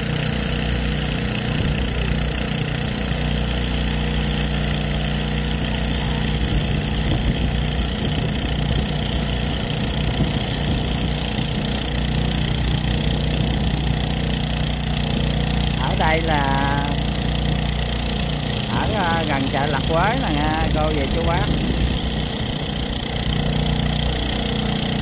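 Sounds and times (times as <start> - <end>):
drone rotors humming: 0.0 - 25.0.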